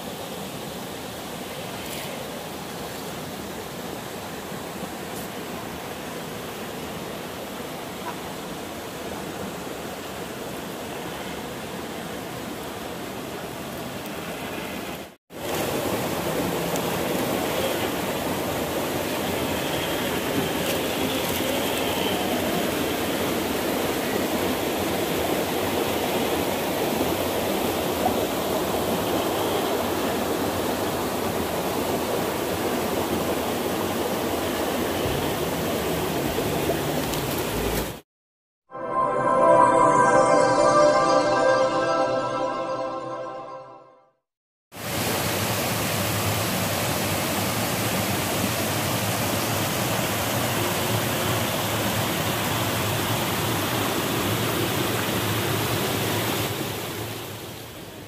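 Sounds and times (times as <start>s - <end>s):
flowing water rushing: 0.0s - 38.0s, 44.8s - 58.0s.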